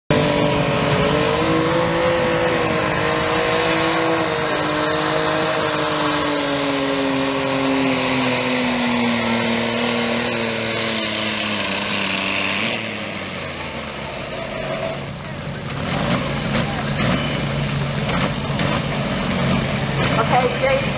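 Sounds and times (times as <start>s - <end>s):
lawn mower engine at full throttle: 0.1s - 20.9s.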